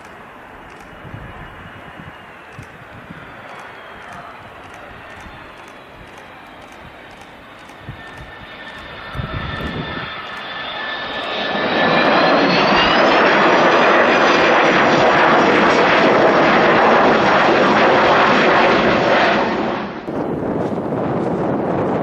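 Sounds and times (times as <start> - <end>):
jet engines roaring: 0.0 - 22.0
jet engines spooling up: 0.0 - 22.0.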